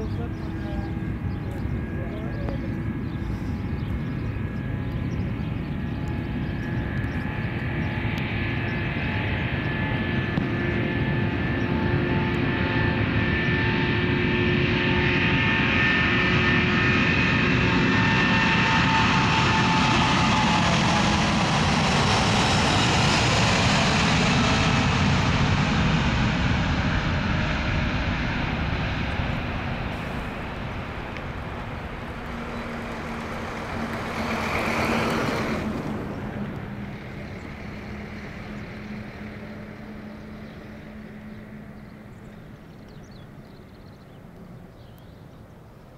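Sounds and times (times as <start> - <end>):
jet engines at takeoff: 0.0 - 45.9.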